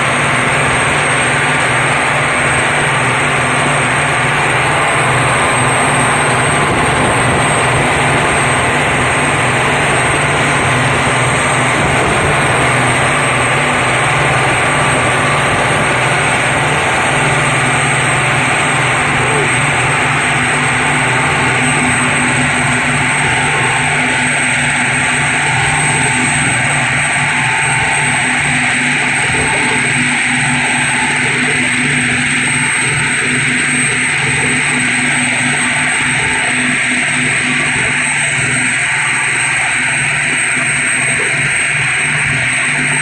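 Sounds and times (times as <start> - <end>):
high-pitched whine: 0.0 - 43.0
marine diesel engine running: 0.0 - 43.0.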